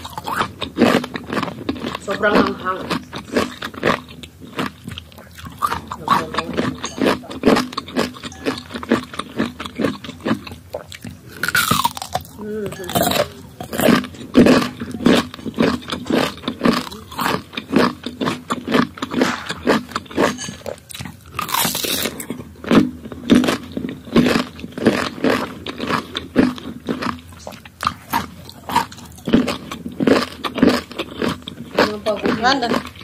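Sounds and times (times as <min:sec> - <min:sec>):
crunching and chewing mango: 0:00.0 - 0:33.0.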